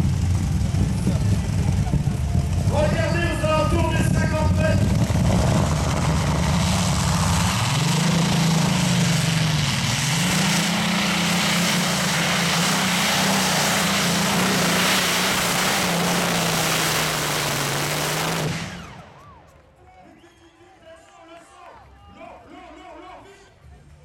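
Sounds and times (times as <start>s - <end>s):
tractor engine at full power: 0.0s - 19.6s.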